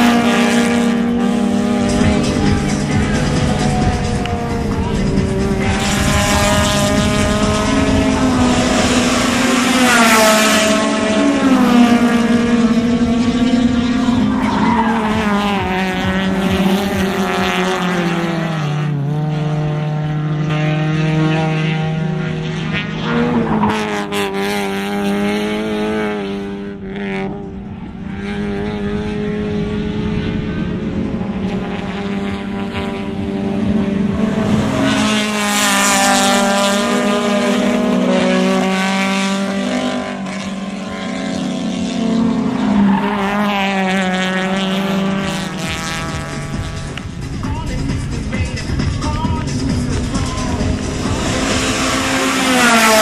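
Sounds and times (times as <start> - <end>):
racing engines passing: 0.0 - 53.0.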